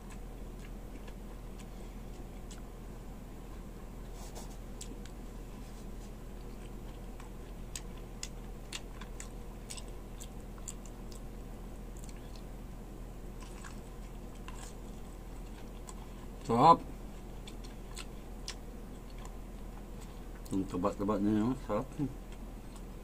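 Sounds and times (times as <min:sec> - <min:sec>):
man chewing food: 0:00.0 - 0:21.0, 0:22.2 - 0:23.0
steady low hum: 0:00.0 - 0:23.0.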